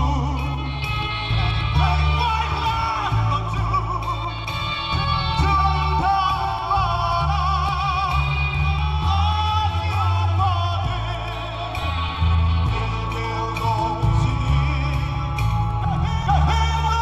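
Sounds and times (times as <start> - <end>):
bass line: 0.0 - 17.0
live band playing: 0.0 - 17.0
man singing with vibrato: 0.0 - 17.0.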